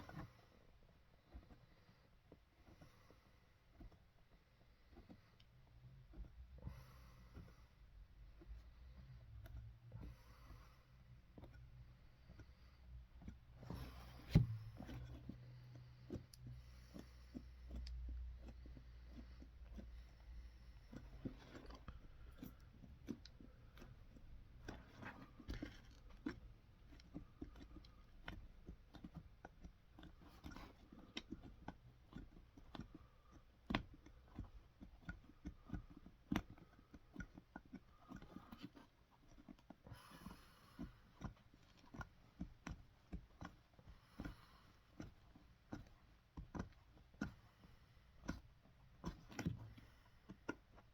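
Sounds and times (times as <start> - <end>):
small clicks crunches and scrapes: 0.0 - 50.9.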